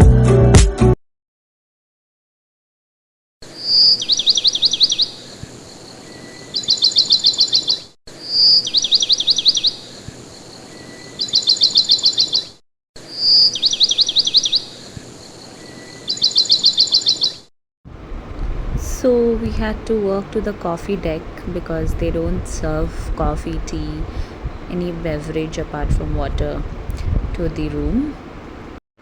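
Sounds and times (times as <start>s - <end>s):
songbird singing: 3.4s - 17.5s, 18.1s - 28.7s.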